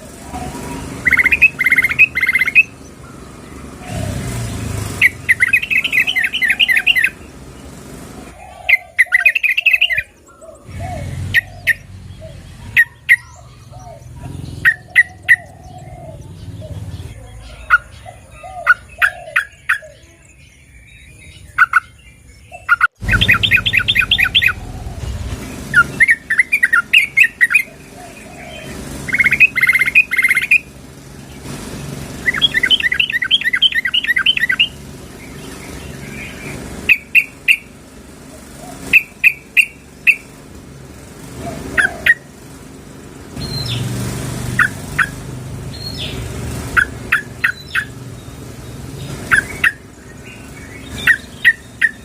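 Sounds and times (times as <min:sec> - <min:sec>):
bird calling: 0:00.0 - 0:40.4, 0:41.2 - 0:42.5, 0:43.4 - 0:52.0.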